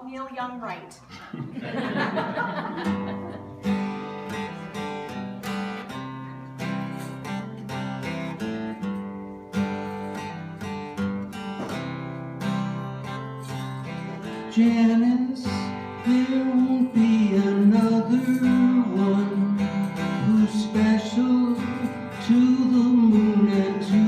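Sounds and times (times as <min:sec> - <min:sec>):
acoustic guitar strumming chords: 0:02.6 - 0:24.0.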